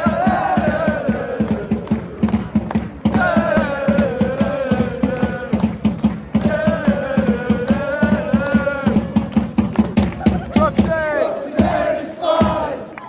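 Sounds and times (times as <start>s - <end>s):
football crowd chanting: 0.0s - 9.8s, 10.4s - 13.0s
steady beat: 0.0s - 12.8s.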